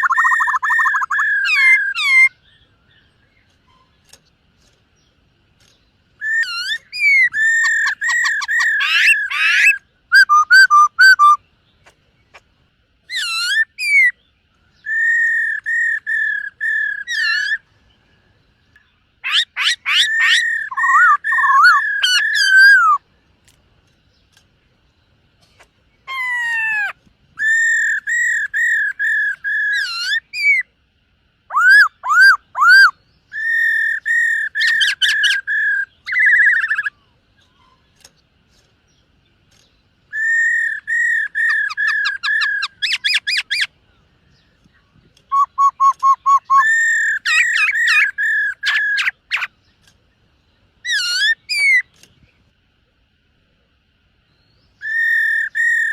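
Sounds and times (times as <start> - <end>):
bird whistled song: 0.0 - 4.2, 5.0 - 12.4, 13.0 - 23.1, 25.6 - 30.7, 31.5 - 38.1, 38.9 - 50.0, 50.8 - 52.4, 54.3 - 55.9.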